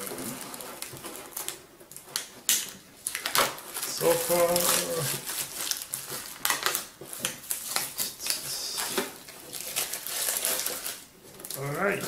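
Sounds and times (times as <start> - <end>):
plastic shrink wrap crinkling: 0.0 - 12.0.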